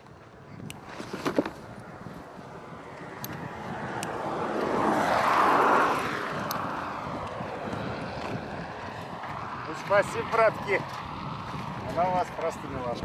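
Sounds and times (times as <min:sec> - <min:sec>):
vehicle passing by: 0:01.9 - 0:13.0.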